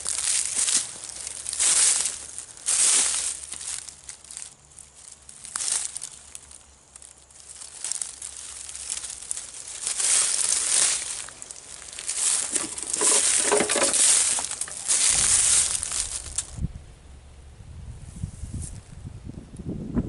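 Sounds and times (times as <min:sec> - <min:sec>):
footsteps crunching through dry leaves: 0:00.0 - 0:16.7.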